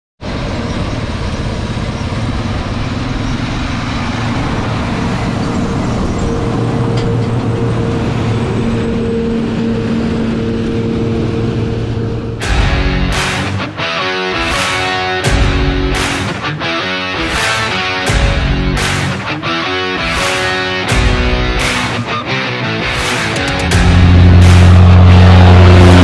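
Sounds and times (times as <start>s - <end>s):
engine and machinery drone: 0.2s - 26.0s
steady machine whine: 0.2s - 26.0s.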